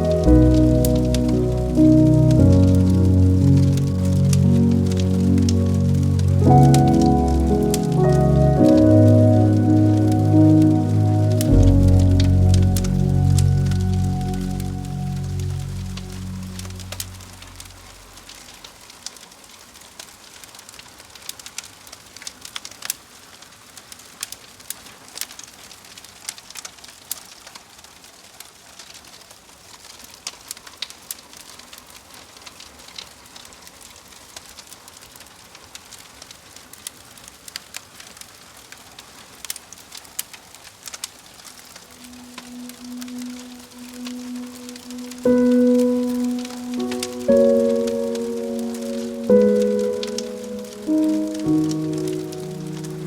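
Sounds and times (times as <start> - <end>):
campfire crackling: 0.0 - 53.0.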